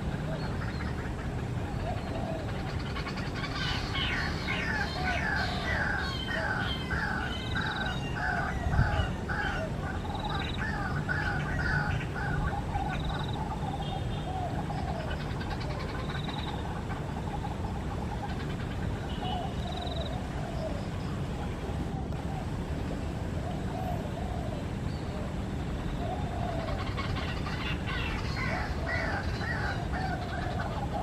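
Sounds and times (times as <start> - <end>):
bird calling: 0.0 - 22.8, 23.4 - 31.0.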